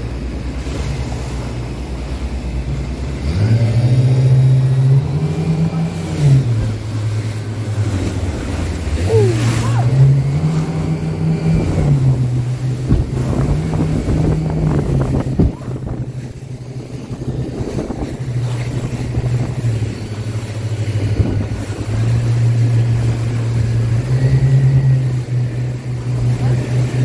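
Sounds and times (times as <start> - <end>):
motorboat engine drone: 0.0 - 27.0
rushing water and spray: 0.0 - 27.0.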